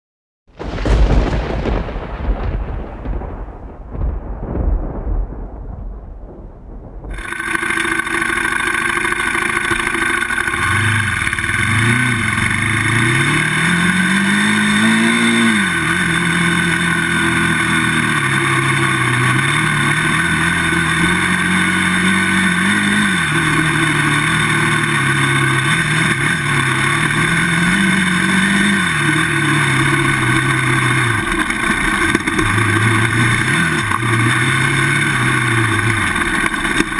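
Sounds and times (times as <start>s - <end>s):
low rumble: 0.6s - 36.9s
wind and trail noise: 6.8s - 36.9s
atv engine revving: 7.1s - 36.9s.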